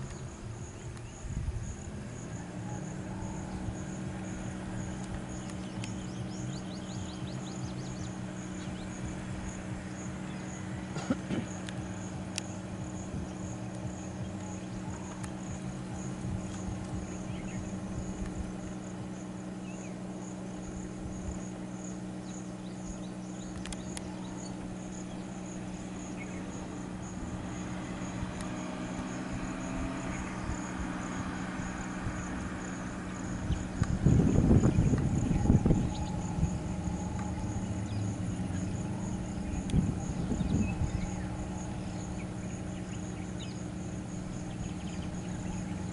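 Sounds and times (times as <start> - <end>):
insects chirping: 0.0 - 45.9
vehicle engine idling: 0.0 - 45.9.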